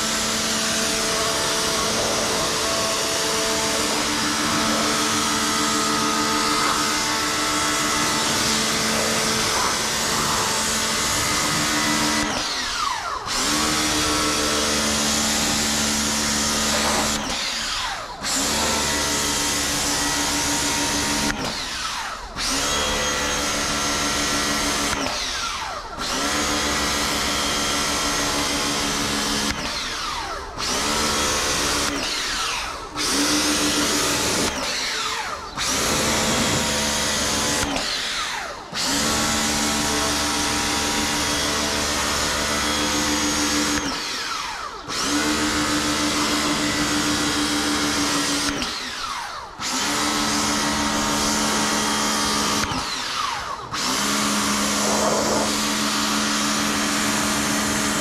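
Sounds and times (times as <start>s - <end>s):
pressure washer motor running: 0.0s - 58.0s.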